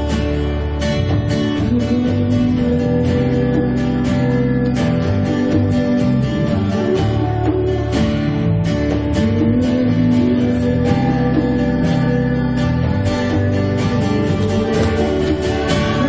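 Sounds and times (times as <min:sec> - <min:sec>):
bass: 0:00.0 - 0:16.0
drums: 0:00.0 - 0:16.0
strummed acoustic guitar: 0:00.0 - 0:16.0.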